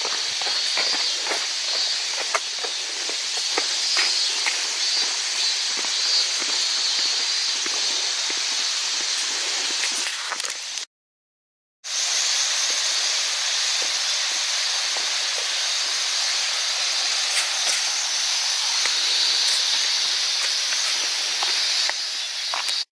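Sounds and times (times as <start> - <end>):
shrill insect chorus: 0.0 - 10.8, 11.9 - 22.9.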